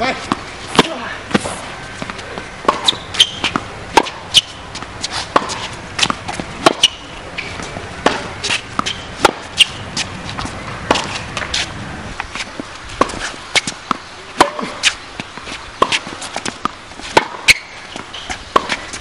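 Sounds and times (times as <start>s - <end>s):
tennis balls struck and bouncing: 0.0s - 19.0s
shoe squeaks: 1.5s - 3.7s, 4.3s - 16.6s, 17.3s - 19.0s.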